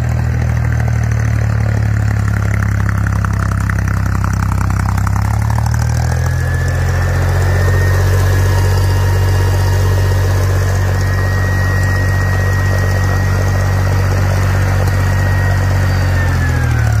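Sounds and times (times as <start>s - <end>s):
thin steady whine: 0.0s - 17.0s
tractor engine idling: 0.0s - 17.0s.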